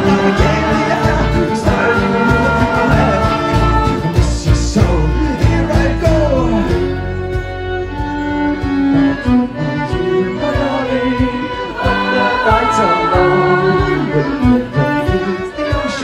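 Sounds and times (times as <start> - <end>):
accordion: 0.0 - 16.0
fiddle melody: 0.0 - 16.0
strummed guitar and bouzouki: 0.0 - 16.0.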